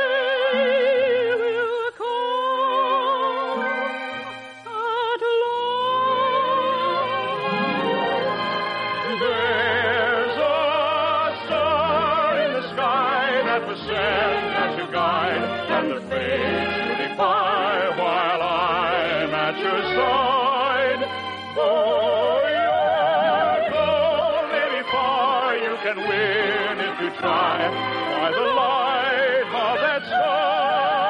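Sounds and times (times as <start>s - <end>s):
orchestra playing operetta music: 2.2s - 31.0s.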